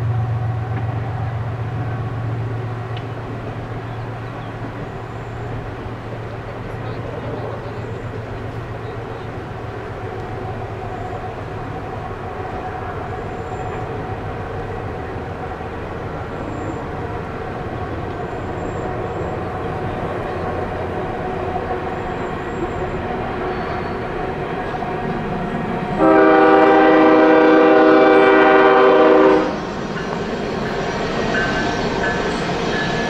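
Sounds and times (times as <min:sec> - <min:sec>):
diesel locomotive engine drone: 0:00.0 - 0:33.0.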